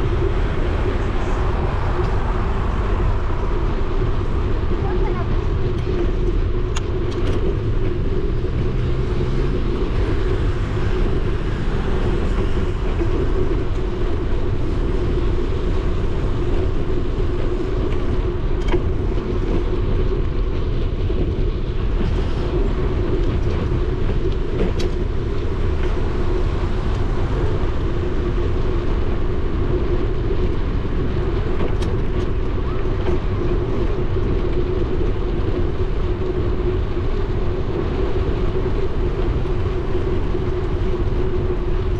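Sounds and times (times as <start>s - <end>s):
bicycle tyres rolling on pavement: 0.0s - 41.9s
wind on microphone: 0.0s - 41.9s.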